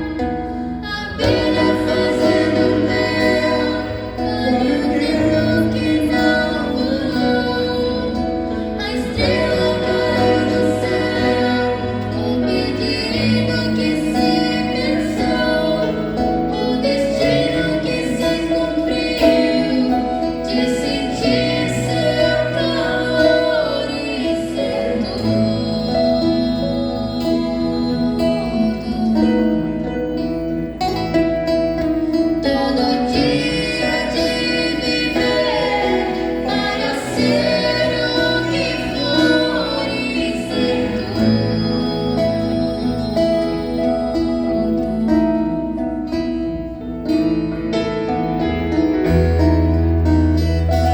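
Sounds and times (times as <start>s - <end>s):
woman singing: 0.0s - 46.9s.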